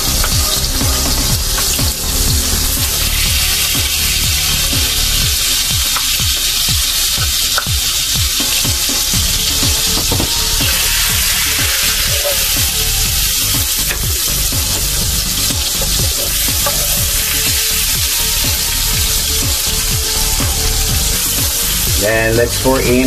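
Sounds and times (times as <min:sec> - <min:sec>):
background music with steady beat: 0:00.0 - 0:23.0
butter sizzling in frying pan: 0:00.0 - 0:23.0.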